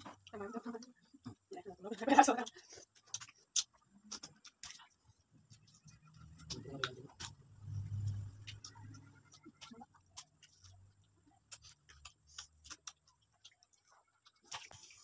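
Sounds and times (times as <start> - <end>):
mouth smacks and clicks eating: 2.2 - 15.0.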